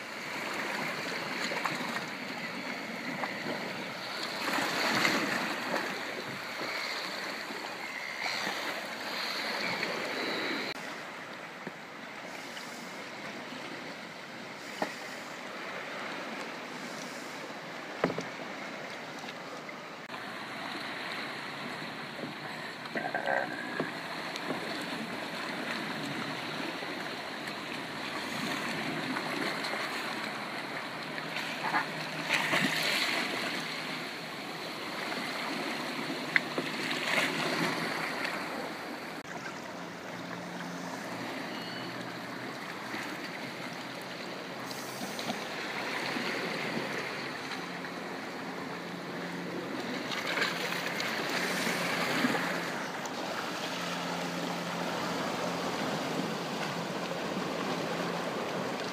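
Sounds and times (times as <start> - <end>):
water lapping against rocks and hull: 0.0 - 58.9
water splashes: 0.0 - 58.9.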